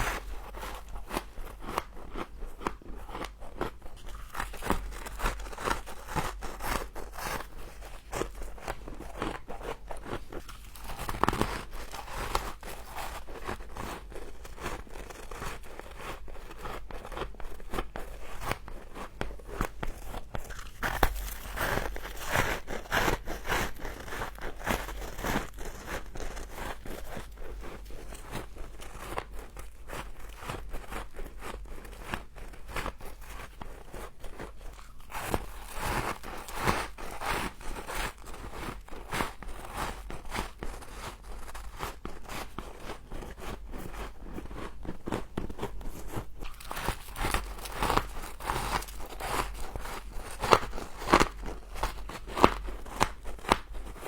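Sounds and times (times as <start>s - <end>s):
crunching and chewing frost: 0.0s - 54.0s.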